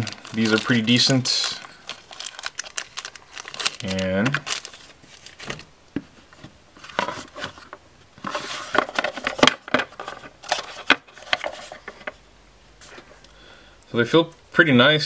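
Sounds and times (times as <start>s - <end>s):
packaging rustling: 0.0s - 12.1s.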